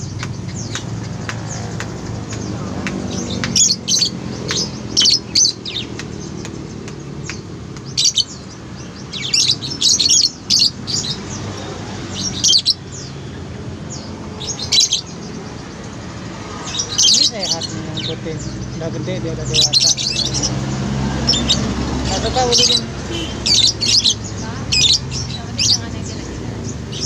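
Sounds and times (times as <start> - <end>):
lovebirds chirping shrilly: 0.0 - 27.0.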